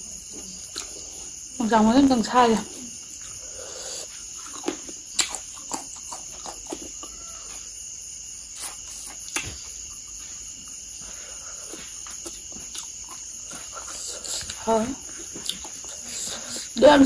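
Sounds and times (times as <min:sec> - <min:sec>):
cricket and insect chorus: 0:00.0 - 0:17.0.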